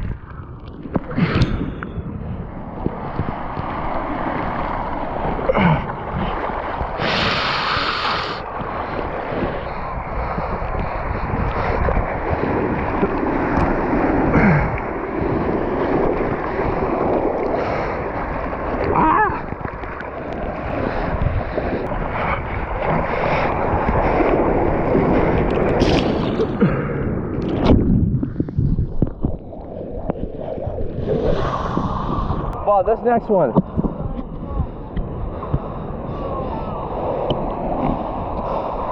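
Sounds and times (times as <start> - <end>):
ocean surf breaking: 0.0 - 28.6, 29.2 - 38.9
wind buffeting microphone: 0.0 - 38.9.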